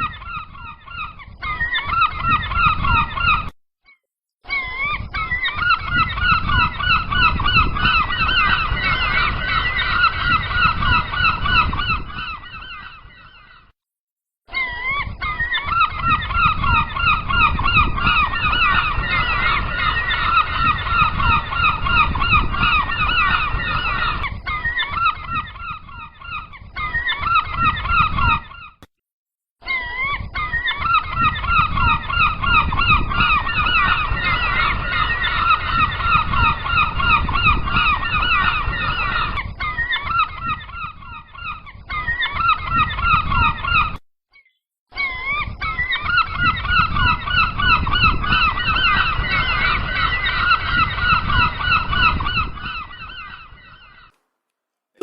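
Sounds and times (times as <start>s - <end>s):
gulls calling: 0.0s - 3.5s, 4.5s - 13.7s, 14.5s - 28.8s, 29.7s - 54.2s.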